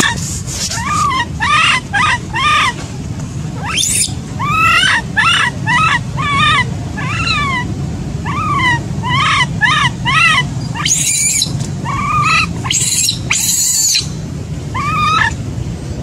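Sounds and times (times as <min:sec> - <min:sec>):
baby monkey cooing cries: 0:00.8 - 0:02.8, 0:03.6 - 0:15.4.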